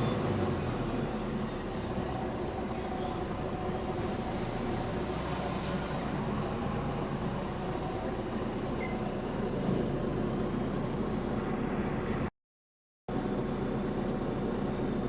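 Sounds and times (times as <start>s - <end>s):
bus engine running: 0.0s - 12.3s, 13.1s - 15.0s.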